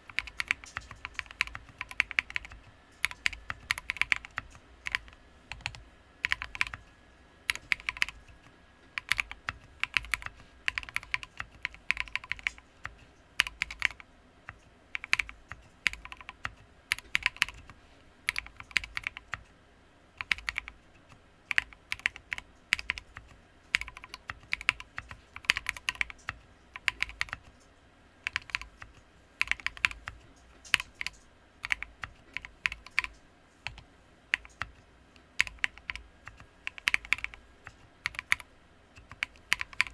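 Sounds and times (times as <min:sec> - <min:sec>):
mechanical keyboard typing: 0:00.0 - 0:06.9, 0:07.5 - 0:19.5, 0:20.2 - 0:27.6, 0:28.2 - 0:39.9.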